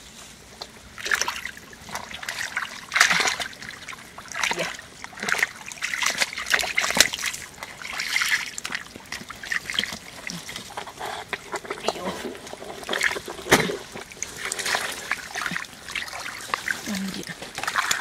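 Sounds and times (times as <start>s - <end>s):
mud squelching and splashing: 0.6s - 18.0s.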